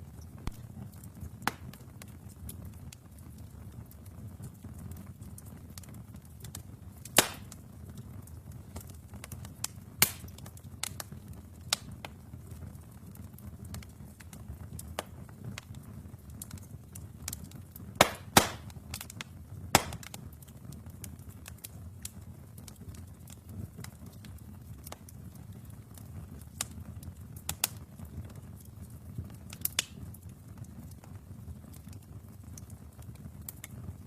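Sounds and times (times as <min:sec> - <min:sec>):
fire crackling and popping: 0:00.0 - 0:34.0
fire rumbling: 0:00.0 - 0:34.0.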